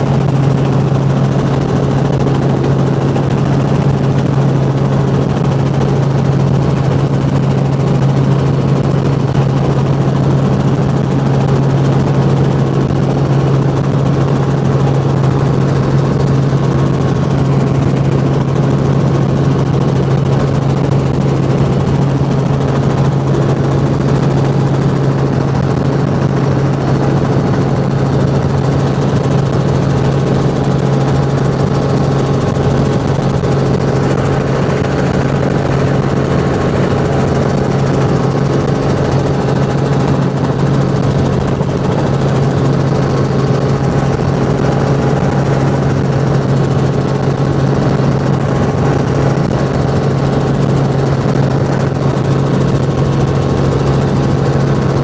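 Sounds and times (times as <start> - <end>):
helicopter cabin drone: 0.0 - 55.0.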